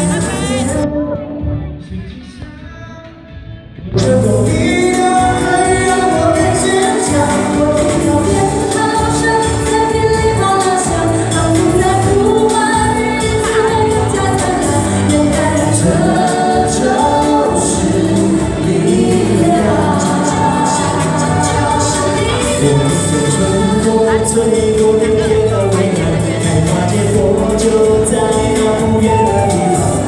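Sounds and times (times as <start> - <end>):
people singing into microphones: 0.0 - 30.0
pop music accompaniment: 0.0 - 30.0.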